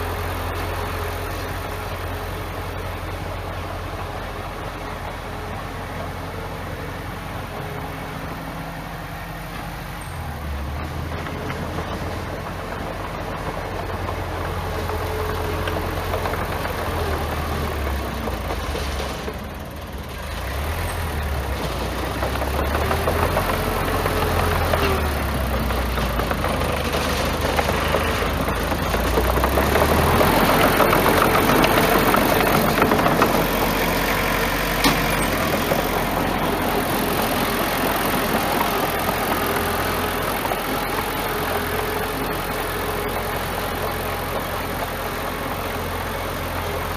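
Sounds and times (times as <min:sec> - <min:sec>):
broad mechanical noise: 0:00.0 - 0:46.9
bulldozer diesel engine: 0:00.0 - 0:46.9.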